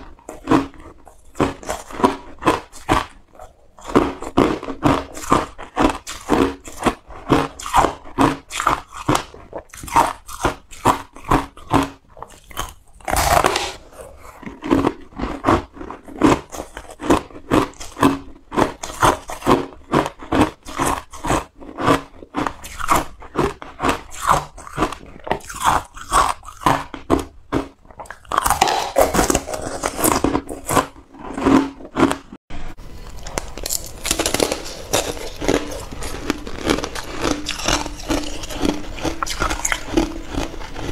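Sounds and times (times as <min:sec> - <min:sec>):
crunching and chewing ice: 0:00.0 - 0:40.9.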